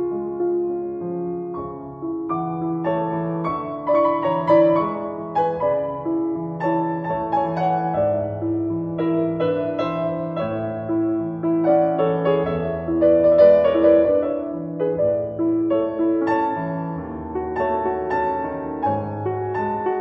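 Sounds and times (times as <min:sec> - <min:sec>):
piano notes and chords: 0:00.0 - 0:20.0.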